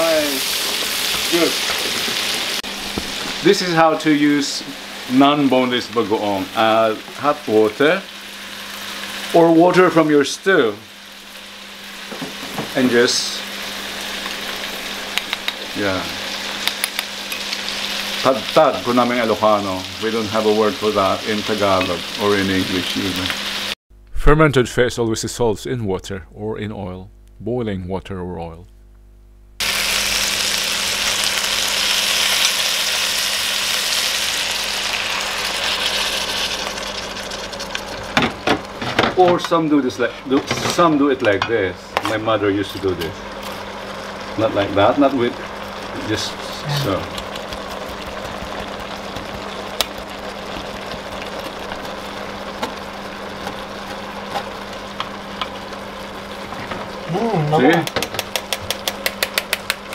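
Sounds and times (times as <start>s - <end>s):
stew sizzling in a pan: 0.0s - 23.8s, 29.6s - 59.9s
steady hum and hiss: 0.0s - 59.9s.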